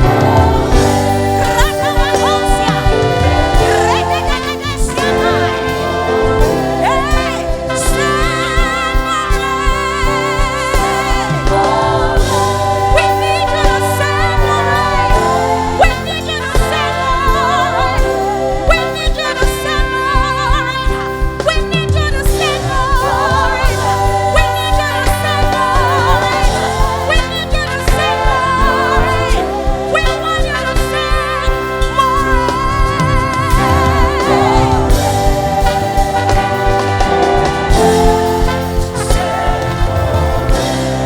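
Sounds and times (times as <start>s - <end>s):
gospel band playing: 0.0s - 41.0s
wavering lead line with vibrato: 0.0s - 41.0s.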